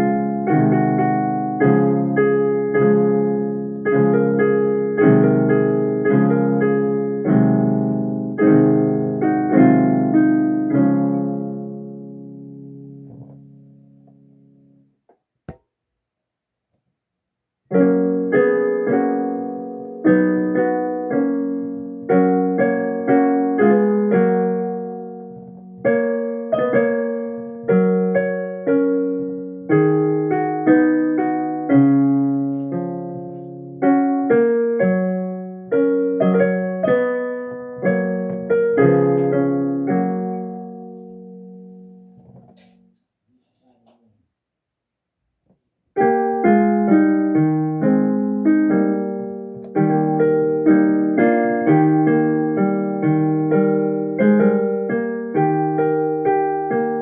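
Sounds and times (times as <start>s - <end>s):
solo piano piece: 0.0s - 15.6s, 17.6s - 43.0s, 45.9s - 57.0s.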